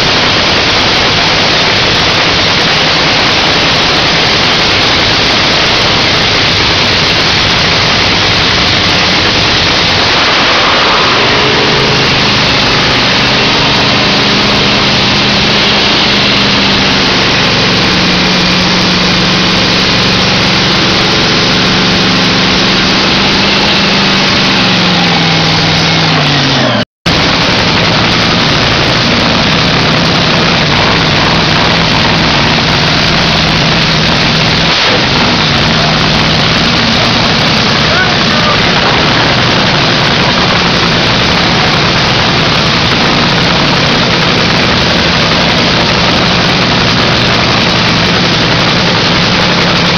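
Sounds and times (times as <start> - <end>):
loud supercharged engine running: 0.0 - 49.9.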